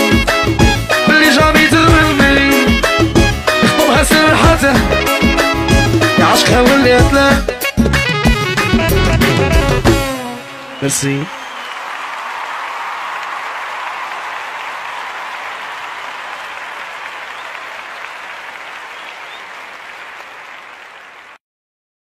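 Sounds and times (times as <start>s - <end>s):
crowd applauding: 1.9s - 6.9s, 8.0s - 21.4s.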